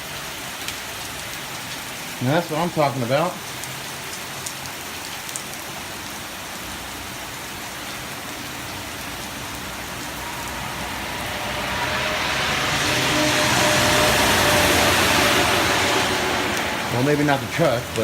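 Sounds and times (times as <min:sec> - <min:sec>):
heavy rain falling: 0:00.0 - 0:18.0
truck on wet road: 0:00.0 - 0:18.0.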